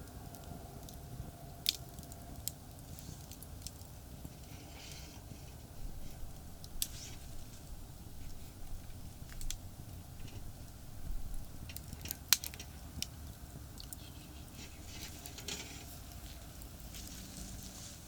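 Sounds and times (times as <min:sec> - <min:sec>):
campfire crackling and popping: 0:00.0 - 0:17.9
distant highway traffic: 0:00.0 - 0:18.0.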